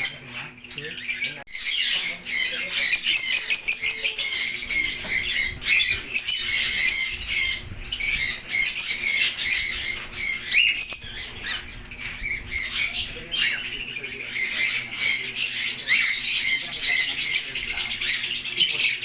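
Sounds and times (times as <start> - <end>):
lovebirds chattering and squawking: 0.0 - 19.0.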